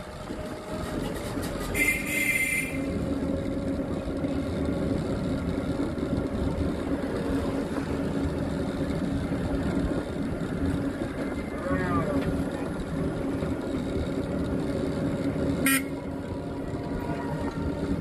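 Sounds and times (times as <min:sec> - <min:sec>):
road noise: 0:00.0 - 0:18.0
vehicle motor humming: 0:00.0 - 0:18.0.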